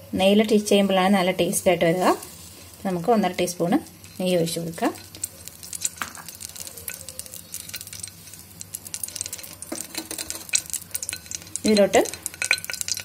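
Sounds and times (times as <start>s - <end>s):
ghee sizzling with crackling pops: 0.1s - 13.0s.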